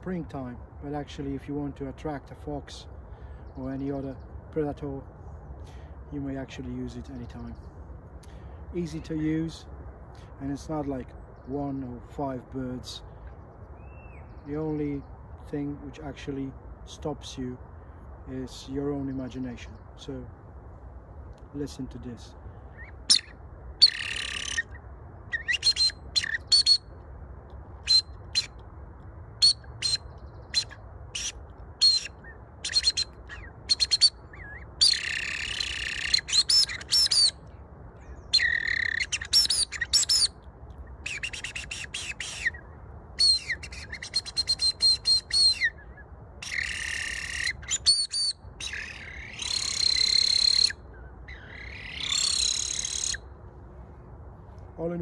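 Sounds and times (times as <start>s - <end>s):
recorded birdsong through speaker: 0.0s - 20.4s, 21.3s - 26.9s, 27.8s - 55.0s.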